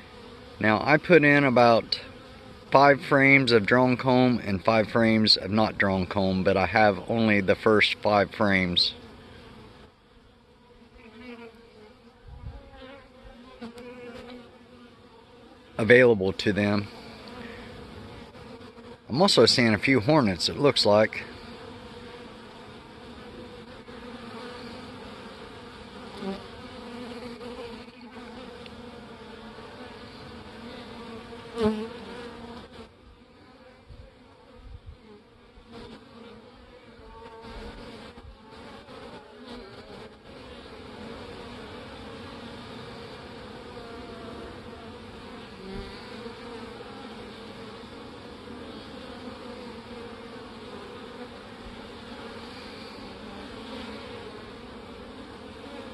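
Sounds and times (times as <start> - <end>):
bees buzzing: 0.0 - 55.9.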